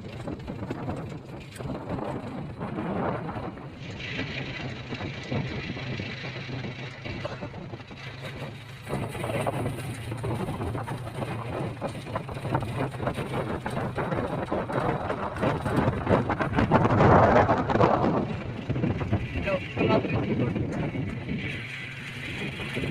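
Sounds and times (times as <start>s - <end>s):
road and wind noise: 0.0s - 22.9s
vehicle engine running: 0.0s - 22.9s.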